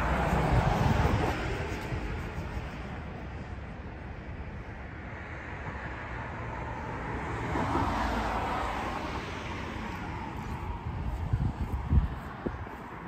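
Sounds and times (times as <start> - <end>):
wind rumbling on microphone: 0.0 - 6.7, 7.4 - 13.0
car passing: 0.0 - 13.0.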